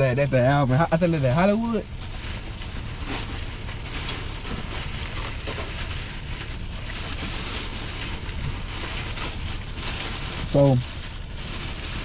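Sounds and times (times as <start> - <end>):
car cabin engine and road noise: 0.0 - 12.0.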